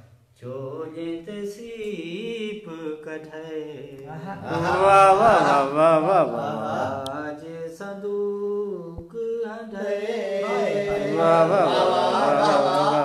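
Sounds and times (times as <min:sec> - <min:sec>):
man singing unaccompanied: 0:00.4 - 0:13.0.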